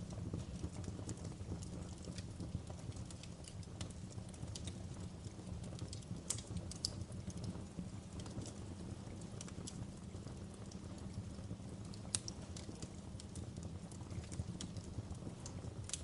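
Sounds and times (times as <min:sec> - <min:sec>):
fire crackles and pops: 0:00.0 - 0:16.0
wood fire burning: 0:00.0 - 0:16.0.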